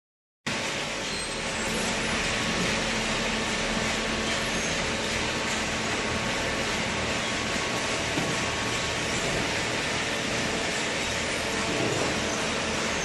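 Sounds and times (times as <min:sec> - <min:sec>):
machinery low hum: 0:00.5 - 0:13.0.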